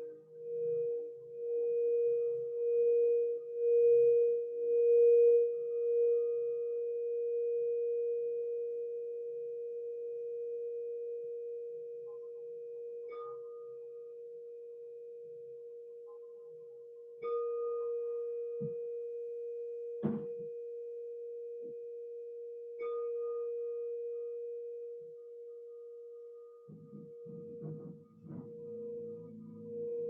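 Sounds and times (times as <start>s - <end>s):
faint higher ring: 0.0s - 30.0s
singing bowl low tone: 0.0s - 30.0s.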